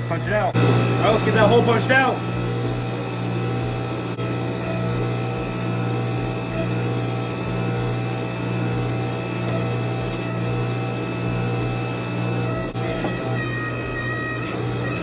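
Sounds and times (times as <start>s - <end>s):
hydraulic press motor drone: 0.0s - 15.0s
press punching metal: 0.6s - 15.0s.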